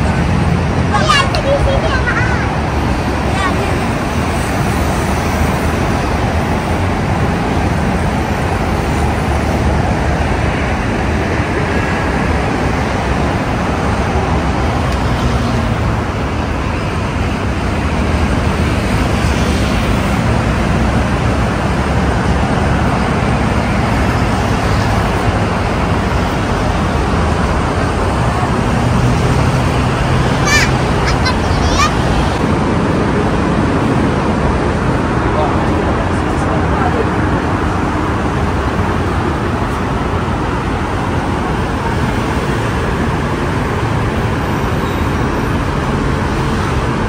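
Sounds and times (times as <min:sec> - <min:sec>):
cars and motorbikes passing: 0:00.0 - 0:47.0.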